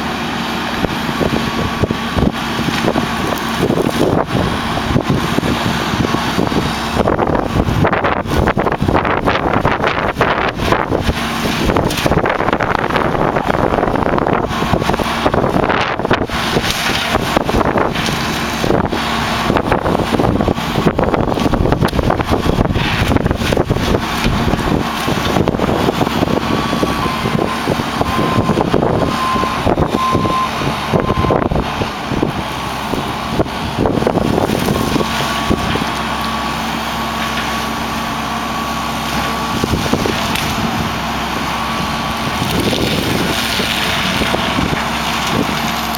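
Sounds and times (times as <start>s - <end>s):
excavator diesel drone: 0.0s - 45.9s
mulcher whine: 0.0s - 45.9s
wind buffeting microphone: 0.7s - 45.9s.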